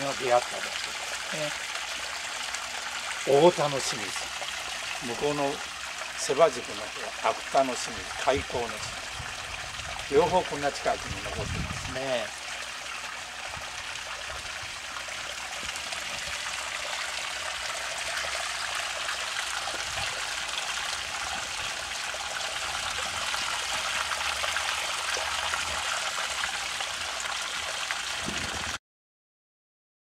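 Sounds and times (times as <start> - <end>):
spring water running: 0.0 - 28.8.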